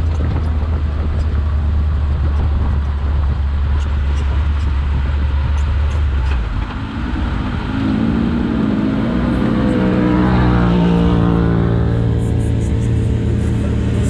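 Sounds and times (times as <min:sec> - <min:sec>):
off-road vehicle engine: 0:00.0 - 0:14.0.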